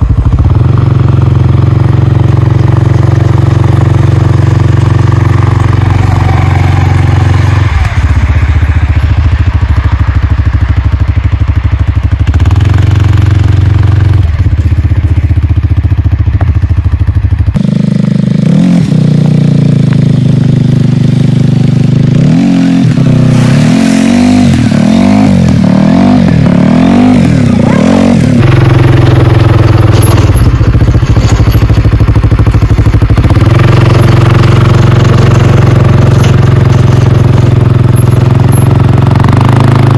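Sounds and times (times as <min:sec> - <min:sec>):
atv engine running and revving: 0:00.0 - 0:39.9.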